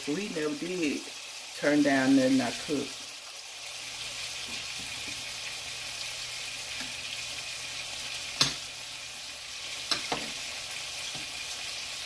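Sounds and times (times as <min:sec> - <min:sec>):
patties sizzling on a griddle: 0:00.0 - 0:12.0.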